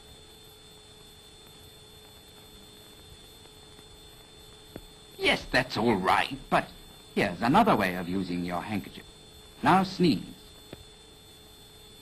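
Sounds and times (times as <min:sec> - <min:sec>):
faint film soundtrack hiss: 0:00.0 - 0:12.0
thin steady hum: 0:00.0 - 0:12.0.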